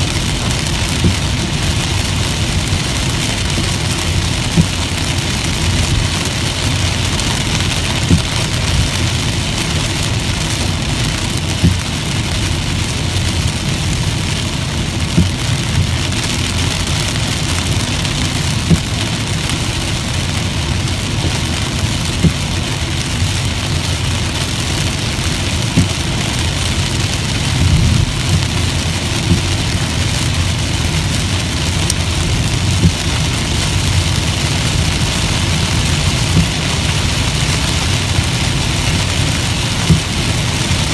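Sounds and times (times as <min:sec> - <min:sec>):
car road and engine rumble: 0:00.0 - 0:40.9
rain hissing on car: 0:00.0 - 0:40.9.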